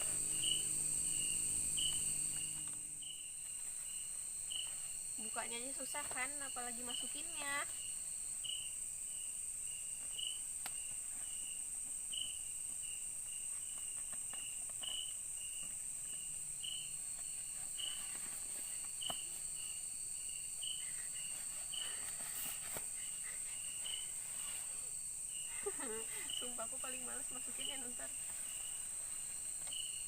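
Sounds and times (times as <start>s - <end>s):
high-pitched insect drone: 0.0s - 13.0s, 14.2s - 30.0s
insect chirping: 0.0s - 30.0s.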